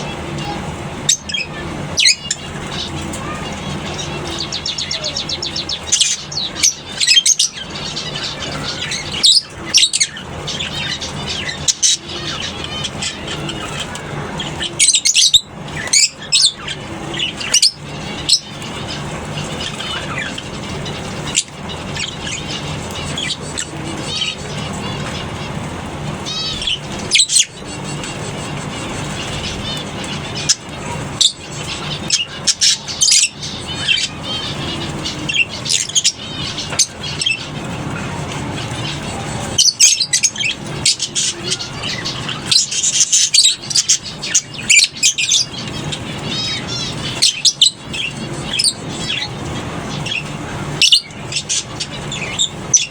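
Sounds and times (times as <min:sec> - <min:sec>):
lovebirds chattering: 0:00.0 - 0:52.9
shrill bird squawks: 0:00.0 - 0:52.9
steady low hum: 0:00.0 - 0:52.9.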